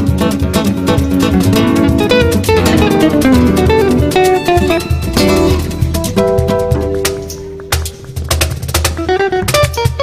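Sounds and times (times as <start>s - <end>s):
flamenco acoustic guitar: 0.0s - 10.0s.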